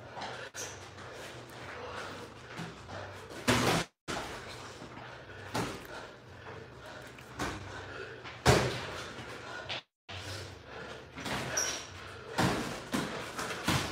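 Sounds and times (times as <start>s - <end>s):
low gym background: 0.0s - 13.9s.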